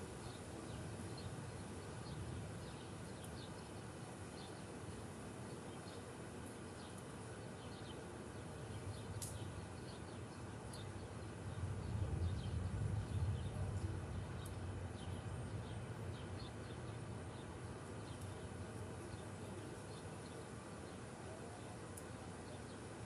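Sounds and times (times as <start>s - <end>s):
faint birds chirping: 0.0s - 23.0s
steady hiss: 0.0s - 23.0s.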